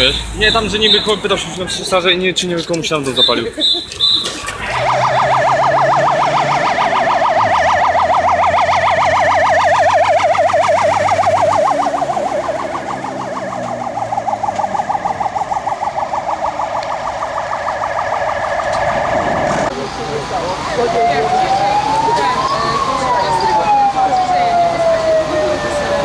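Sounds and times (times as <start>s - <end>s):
truck engine hum: 0.0s - 26.0s
fast warbling siren: 0.5s - 1.4s, 3.2s - 26.0s
slower warbling siren: 4.0s - 26.0s.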